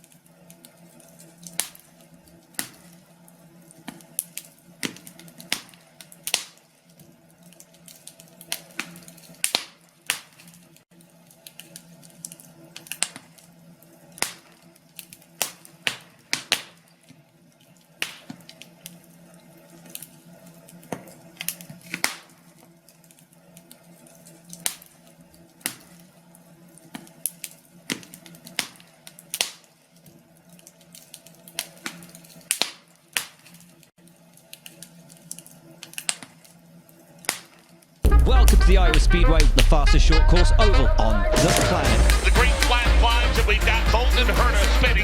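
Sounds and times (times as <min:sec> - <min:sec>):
wood fire crackling: 0:00.0 - 0:40.2, 0:41.3 - 0:45.0.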